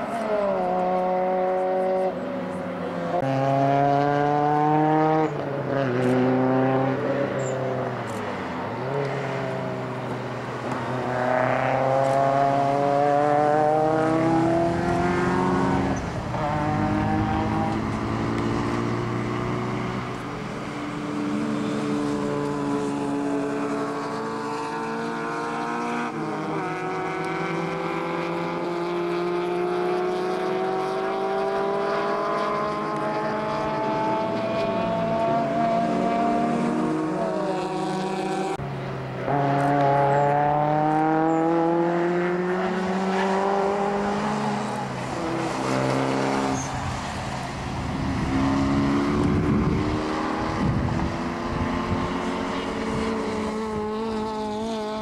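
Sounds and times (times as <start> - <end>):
race car engines accelerating: 0.0 - 55.0.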